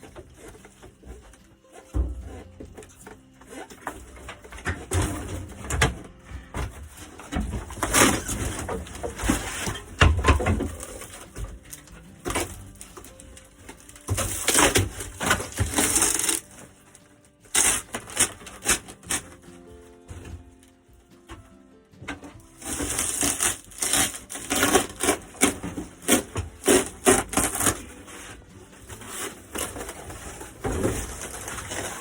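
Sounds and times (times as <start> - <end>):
roof crunching and tearing: 0.0 - 21.5, 22.1 - 32.0.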